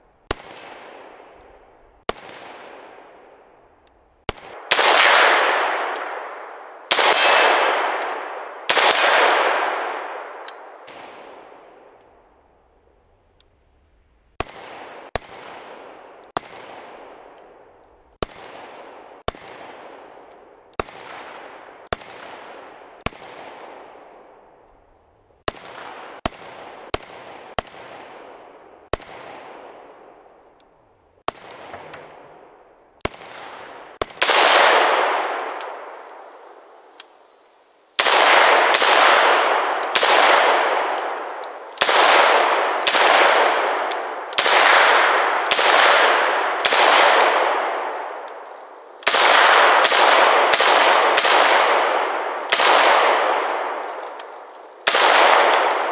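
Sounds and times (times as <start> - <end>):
quieter rifle shots: 0.2 - 3.5, 4.2 - 12.2, 14.3 - 24.8, 25.4 - 30.6, 31.2 - 37.3, 38.0 - 55.9
rifle shots with echo: 0.2 - 3.5, 4.2 - 12.0, 14.4 - 24.6, 25.4 - 30.3, 31.2 - 36.9, 38.0 - 55.9.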